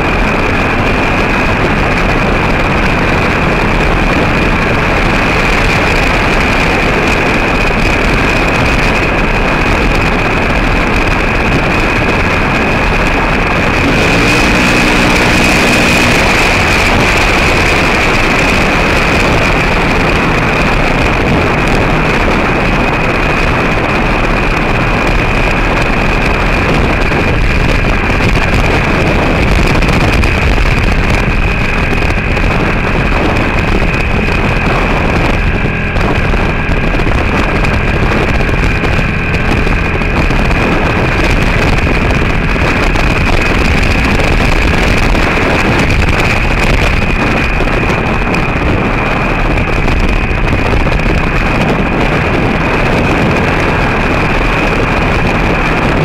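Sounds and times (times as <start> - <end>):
steady high whine: 0.0 - 56.0
vehicle driving on gravel: 0.0 - 56.0
wind: 0.0 - 56.0.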